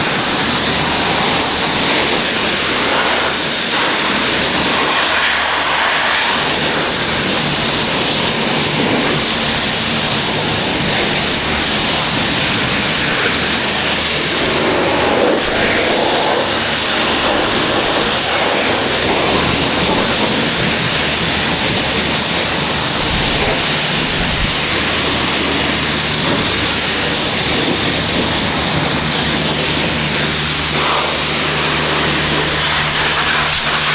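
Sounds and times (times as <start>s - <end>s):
pressure washer spraying water: 0.0s - 33.9s.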